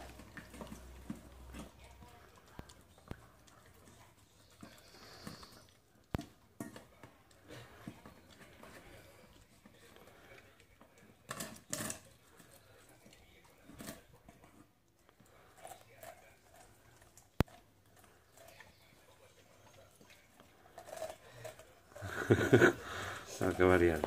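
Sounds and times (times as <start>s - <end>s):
dog chewing: 0.0s - 24.0s.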